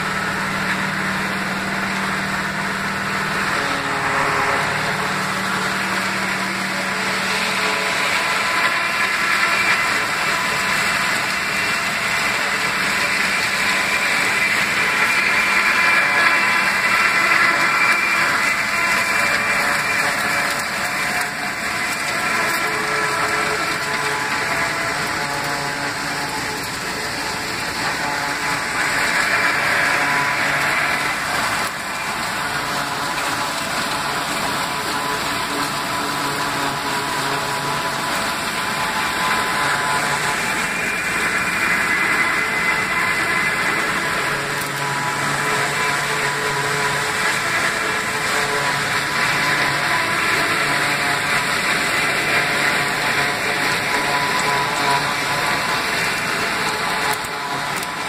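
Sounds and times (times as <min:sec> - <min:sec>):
forage harvester chopping stalks: 0:00.0 - 0:58.0
tractor diesel engine: 0:00.0 - 0:58.0.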